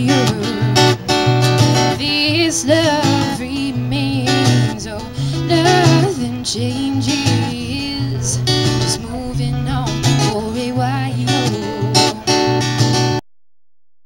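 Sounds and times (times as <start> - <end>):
person singing: 0.0 - 13.2
strummed acoustic guitar: 0.0 - 13.2.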